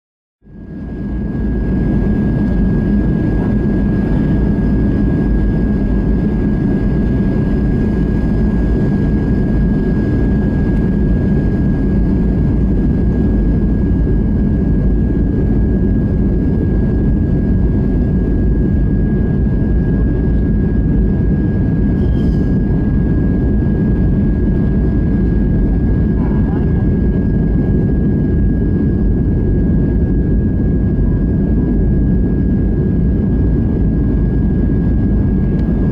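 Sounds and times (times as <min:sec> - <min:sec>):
high whine: 0:00.4 - 0:35.9
jet engine and airflow roar: 0:00.4 - 0:35.9.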